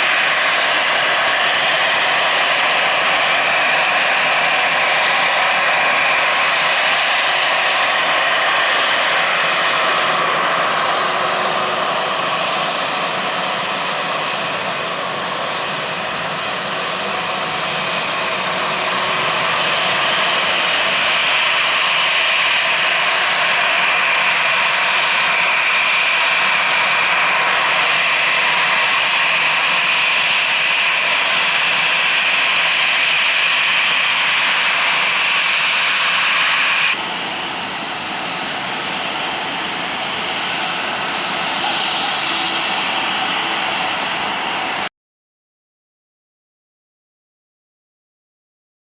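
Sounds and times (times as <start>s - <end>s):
airliner engines droning: 0.0s - 44.9s.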